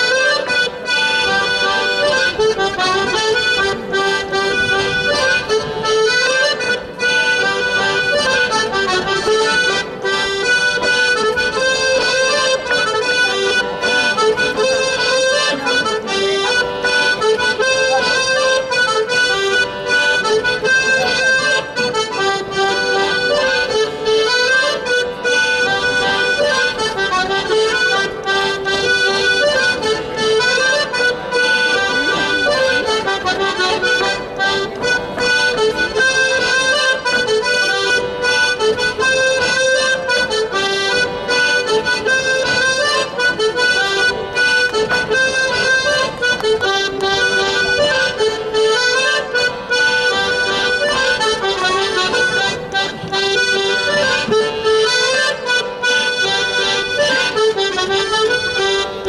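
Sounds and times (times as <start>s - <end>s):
accordion dance music: 0.0s - 59.0s.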